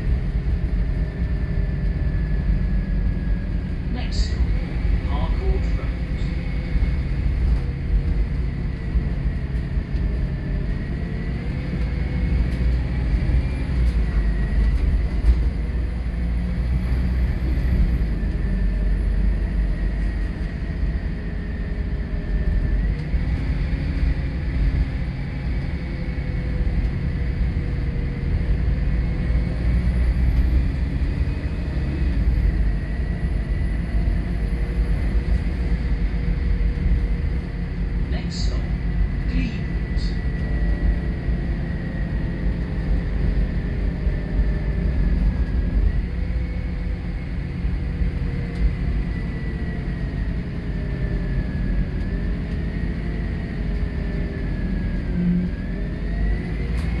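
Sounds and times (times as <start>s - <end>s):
bus engine rumble: 0.0s - 57.0s.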